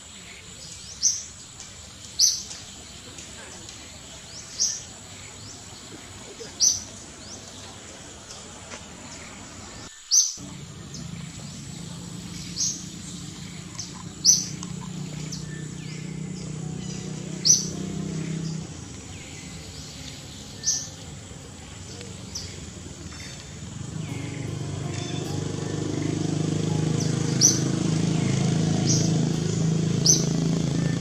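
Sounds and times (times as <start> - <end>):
bird chirping: 0.0 - 31.0
forest ambience: 0.0 - 31.0.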